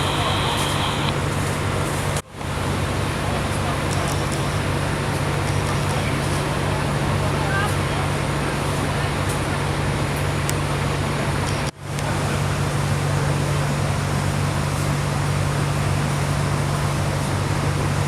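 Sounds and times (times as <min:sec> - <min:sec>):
vehicle road and engine noise: 0:00.0 - 0:18.0.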